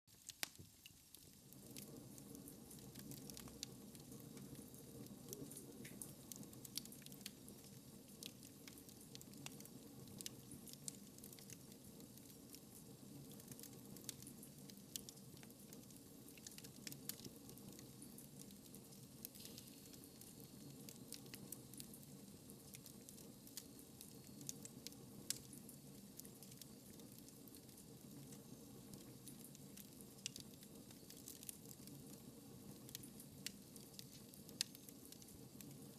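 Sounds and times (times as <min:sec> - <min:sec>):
wood fire crackling and popping: 0:00.1 - 0:35.9
low fire rumble: 0:00.2 - 0:35.9.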